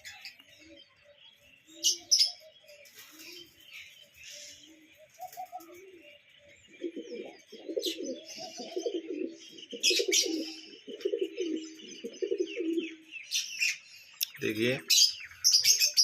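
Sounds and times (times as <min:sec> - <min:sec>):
pigeons cooing: 0:00.0 - 0:14.0
small birds chirping: 0:00.0 - 0:16.0.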